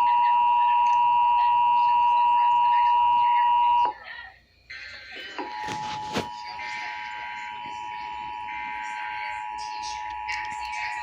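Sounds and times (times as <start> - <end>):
two-tone alarm: 0.0 - 4.0, 5.4 - 11.0.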